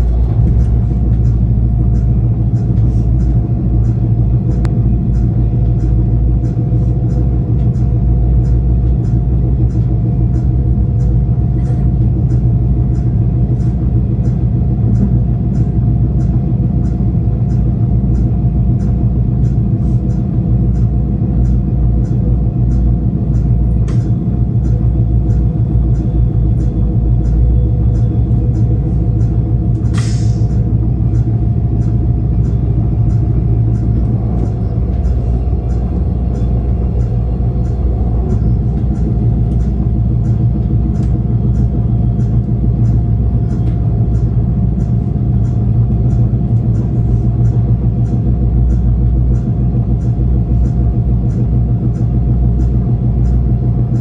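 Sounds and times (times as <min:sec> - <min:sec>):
train interior rumble: 0:00.0 - 0:54.0
light regular ticking: 0:00.5 - 0:54.0.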